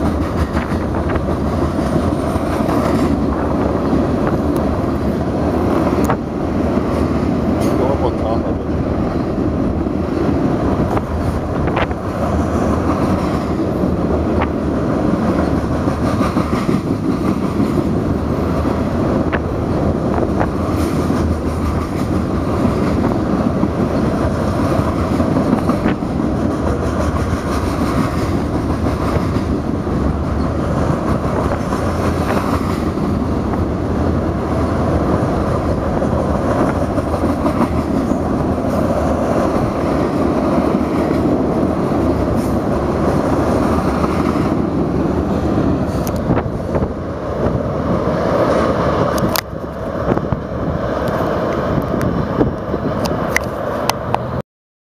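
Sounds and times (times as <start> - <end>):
freight train rumbling by: 0.0 - 54.4.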